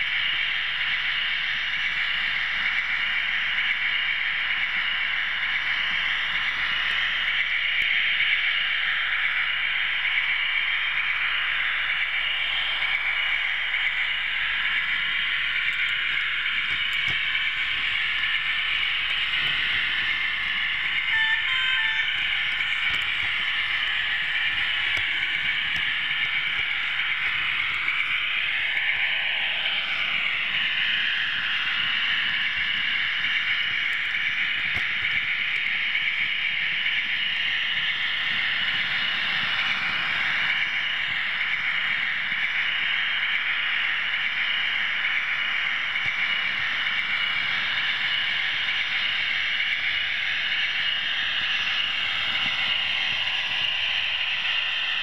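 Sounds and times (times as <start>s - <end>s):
model train motor whirring: 0.0s - 55.0s
wheels running on rails: 0.0s - 55.0s.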